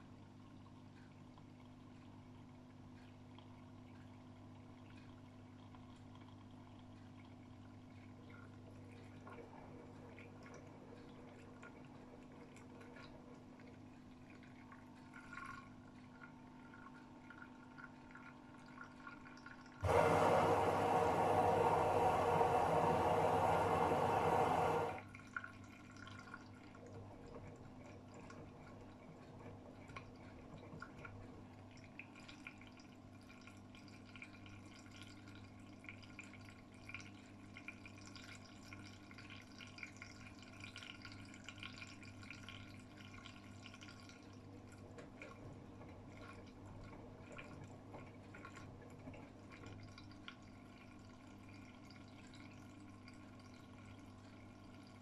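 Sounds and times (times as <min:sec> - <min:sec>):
low steady hum: 0:00.0 - 0:55.0
water dripping and trickling: 0:00.1 - 0:19.8, 0:25.0 - 0:55.0.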